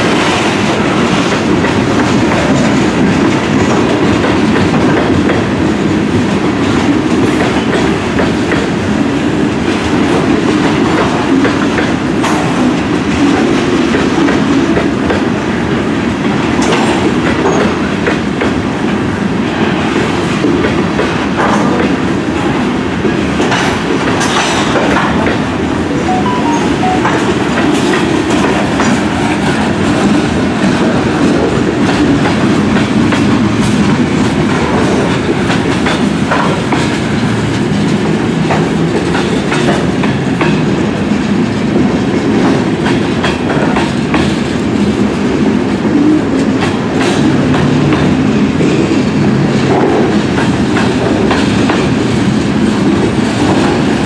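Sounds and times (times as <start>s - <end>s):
freight train wheels rumbling: 0.0s - 26.2s, 26.8s - 54.0s.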